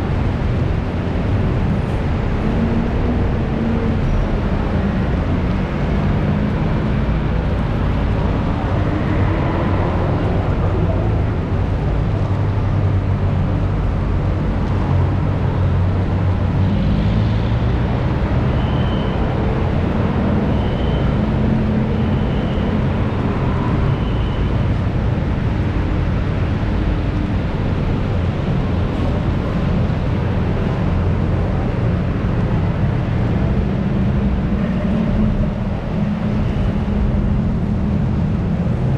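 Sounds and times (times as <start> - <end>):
vehicle engines rumbling: 0.0 - 38.9.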